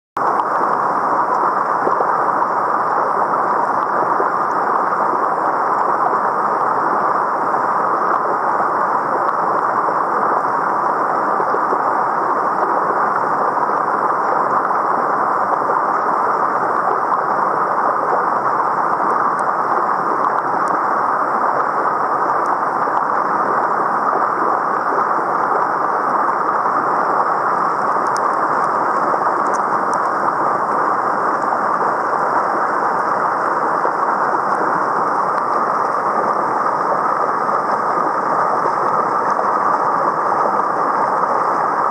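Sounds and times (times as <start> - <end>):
stream water rushing over rocks: 0.2 - 41.9.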